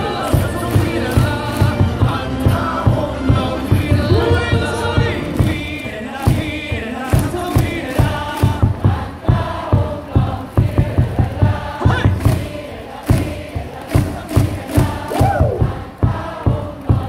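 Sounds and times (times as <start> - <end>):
crowd singing a chant: 0.0 - 17.0
steady thumping beat: 0.0 - 17.0.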